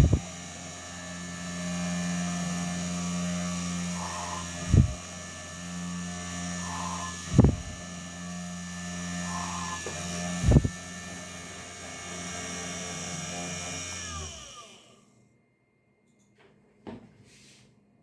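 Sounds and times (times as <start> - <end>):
router spindle whining: 0.0 - 15.1.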